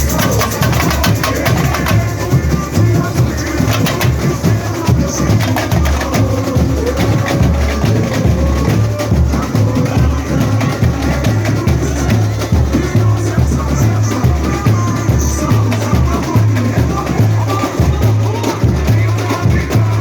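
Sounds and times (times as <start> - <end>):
bass drums pounding: 0.0 - 20.0
snare drums clattering: 0.0 - 20.0.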